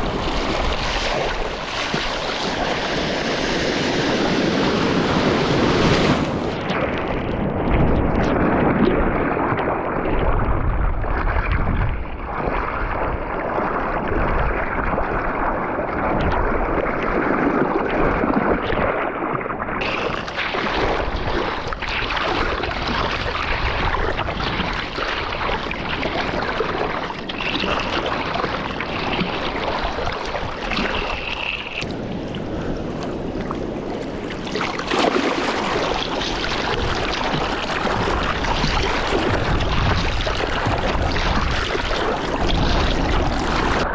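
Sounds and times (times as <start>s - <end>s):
waves splashing: 0.0s - 9.8s, 16.8s - 43.9s
wind noise on microphone: 0.0s - 43.9s.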